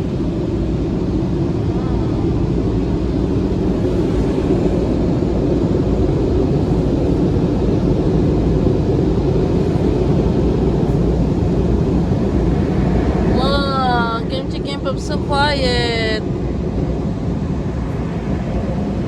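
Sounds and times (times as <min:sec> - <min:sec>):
car wash machinery running: 0:00.0 - 0:19.0.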